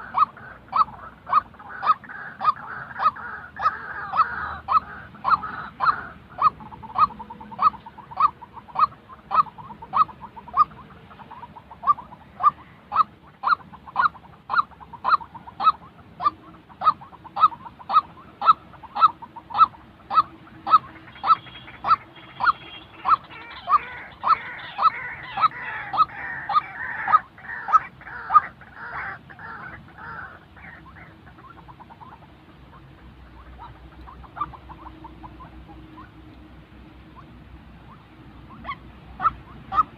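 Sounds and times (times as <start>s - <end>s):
rough bird chatter: 0.0s - 36.1s
waterhen calling: 0.0s - 39.9s.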